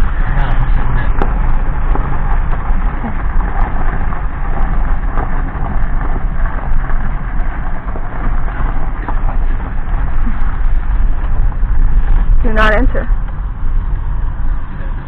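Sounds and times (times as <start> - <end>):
stones popping: 0.0 - 12.4
car engine low rumble: 0.0 - 15.0
car tyres crunching over gravel: 0.0 - 15.0.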